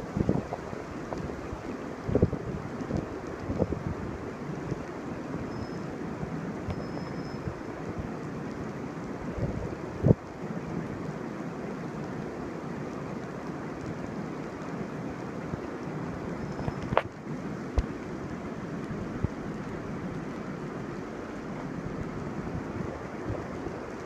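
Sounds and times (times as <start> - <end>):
heavy rain on asphalt: 0.0 - 24.0.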